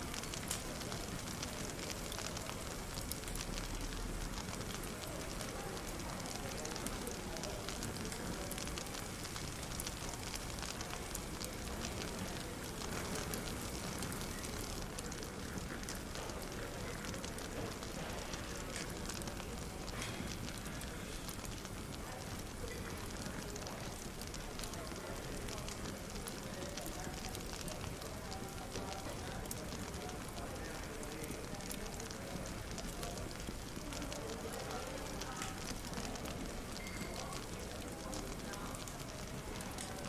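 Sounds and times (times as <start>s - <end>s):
indistinct cafe chatter: 0.0s - 40.0s
wood fire crackling: 0.0s - 40.0s.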